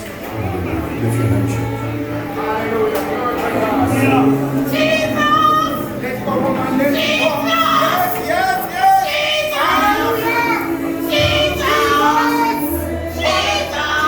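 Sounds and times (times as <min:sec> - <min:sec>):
high voices singing: 0:00.0 - 0:14.0.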